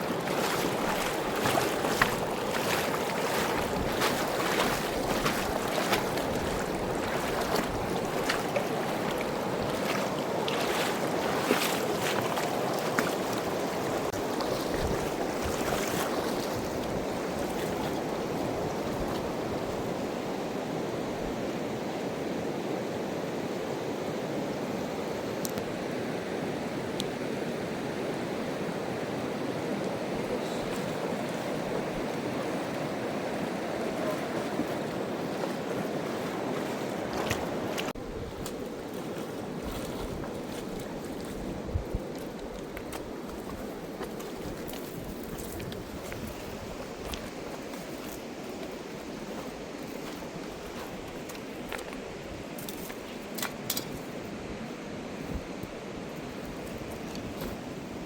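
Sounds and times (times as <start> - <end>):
fast-flowing river rushing: 0.0 - 58.0.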